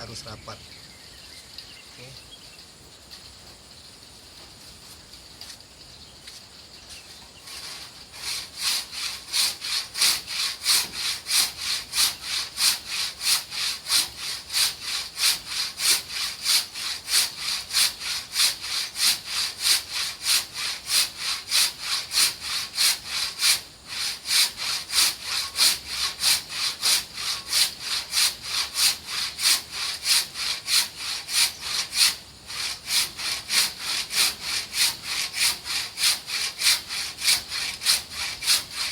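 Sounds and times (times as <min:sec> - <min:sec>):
handsaw cutting wood: 0:07.4 - 0:38.9.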